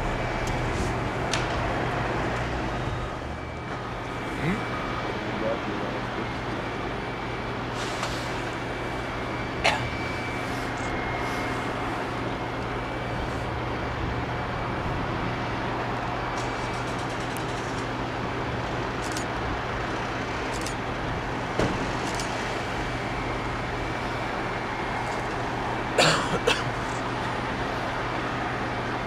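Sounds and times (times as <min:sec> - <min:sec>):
distant jet engines rumbling: 0:00.0 - 0:29.0
faint steady whine: 0:00.0 - 0:29.0.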